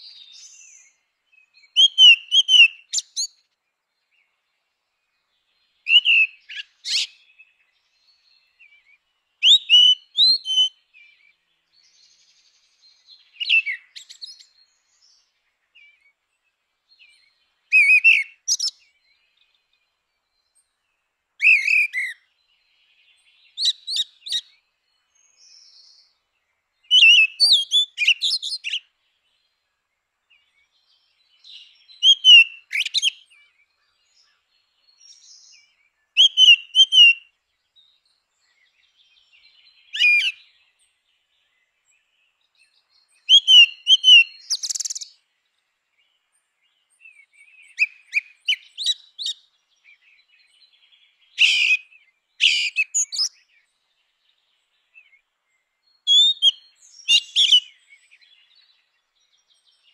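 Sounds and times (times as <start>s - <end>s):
bird whistling song: 0.0s - 3.5s, 5.6s - 16.2s, 16.9s - 19.7s, 21.4s - 26.2s, 26.8s - 28.9s, 30.3s - 45.2s, 46.9s - 59.9s.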